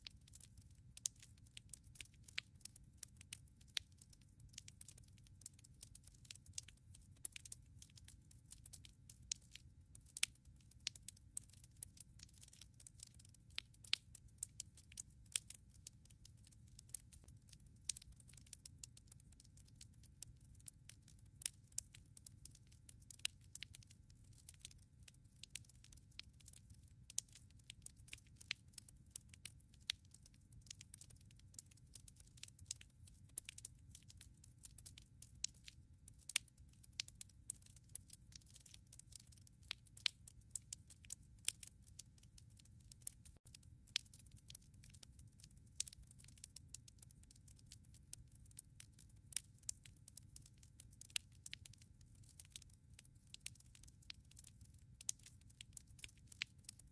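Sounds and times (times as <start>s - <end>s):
wood fire crackling: 0.0s - 49.8s, 50.5s - 56.8s.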